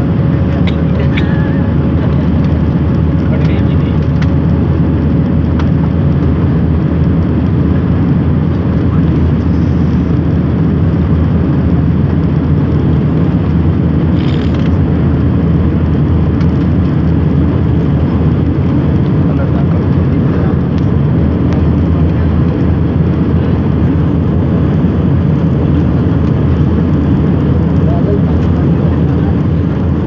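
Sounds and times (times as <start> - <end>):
airliner cabin noise: 0.0 - 30.0.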